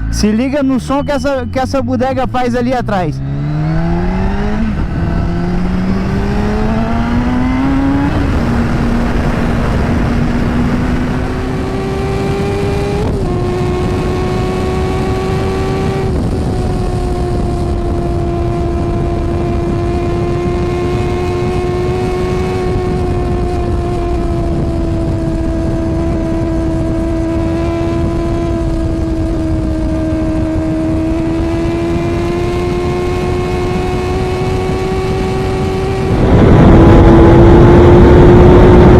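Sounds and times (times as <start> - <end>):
motorcycle engine revving: 2.6 - 38.9.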